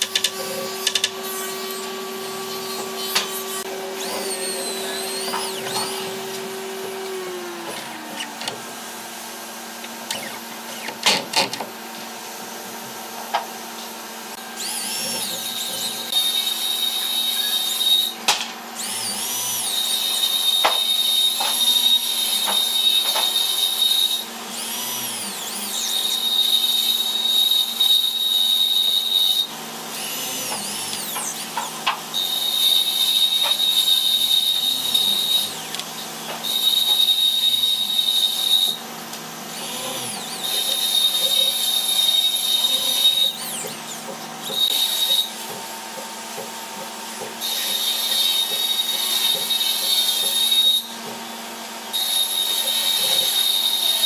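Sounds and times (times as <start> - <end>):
electric drill whining: 0.0 - 54.0.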